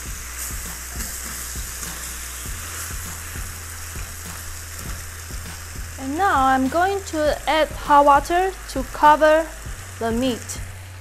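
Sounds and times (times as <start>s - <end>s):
meat sizzling in a pot: 0.0s - 11.0s.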